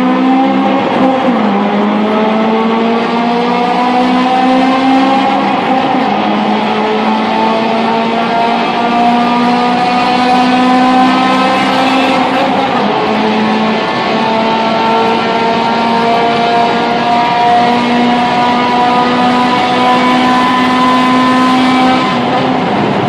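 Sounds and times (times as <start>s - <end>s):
engine at high revs: 0.0s - 23.0s.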